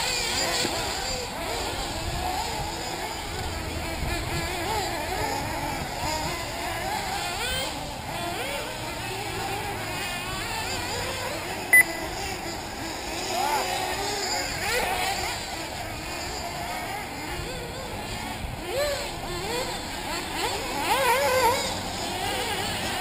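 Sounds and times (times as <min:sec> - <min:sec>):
rc car engines whining: 0:00.0 - 0:23.0.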